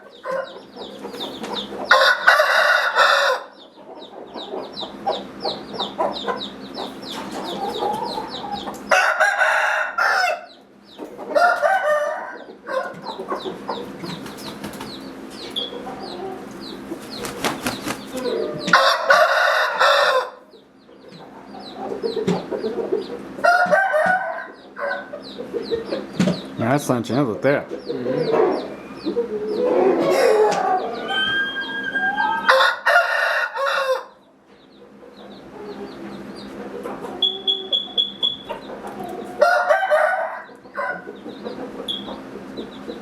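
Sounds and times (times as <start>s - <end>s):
roosters clucking: 0.0s - 43.0s
roosters crowing: 0.0s - 43.0s.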